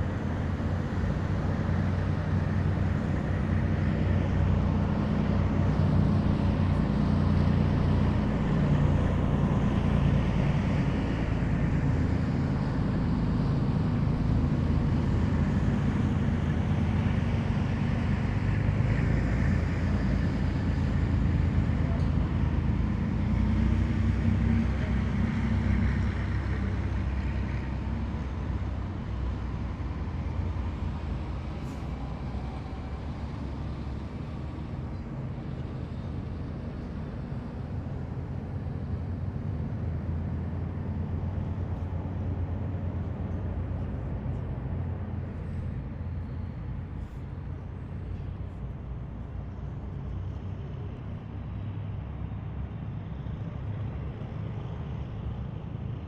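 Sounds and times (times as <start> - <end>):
heavy vehicle engines rumbling: 0.0 - 56.0.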